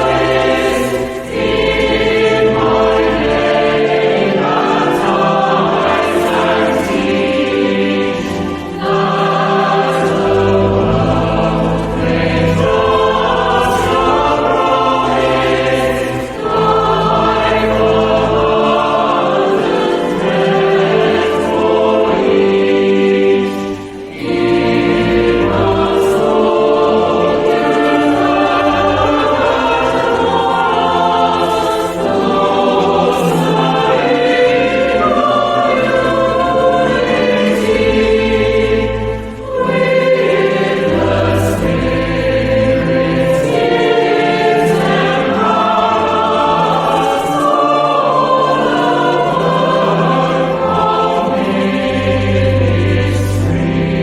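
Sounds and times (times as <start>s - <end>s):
choir singing sacred music: 0.0s - 54.0s.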